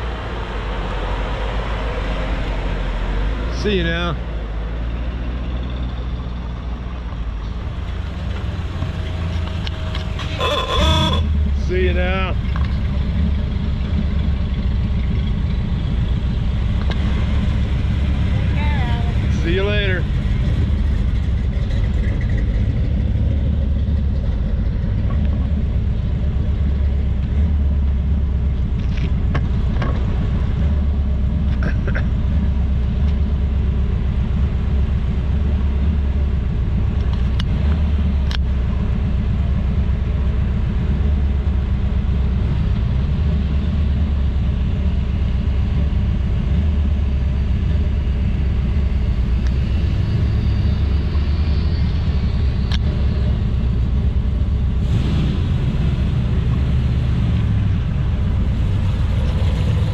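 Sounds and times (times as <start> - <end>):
car engines rumbling: 0.0 - 59.9.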